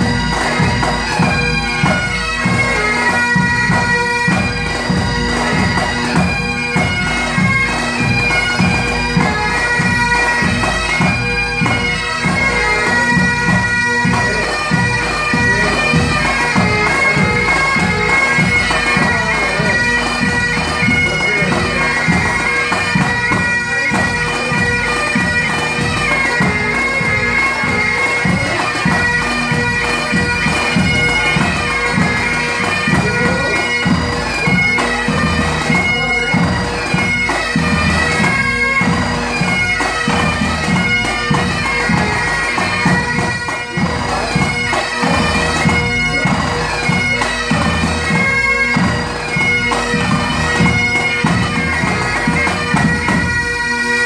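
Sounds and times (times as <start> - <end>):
bagpipes playing a tune: 0.0 - 54.0.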